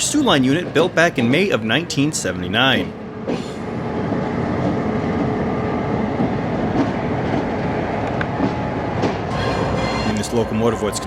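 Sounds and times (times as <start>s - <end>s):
diesel locomotive engine rumble: 0.0s - 11.0s
rail noise: 0.0s - 11.0s.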